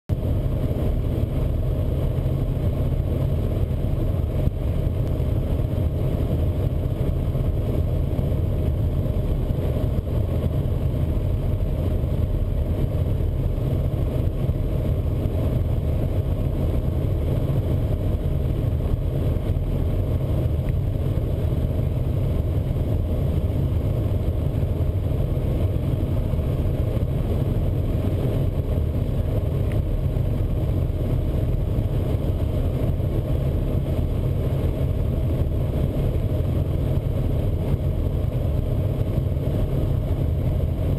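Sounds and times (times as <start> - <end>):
helicopter engine and rotor drone: 0.1 - 40.9.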